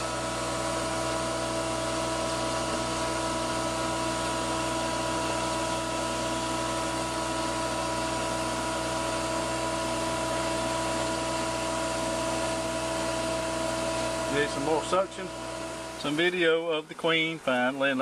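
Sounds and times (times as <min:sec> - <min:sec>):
vacuum motor droning with whine: 0:00.0 - 0:18.0.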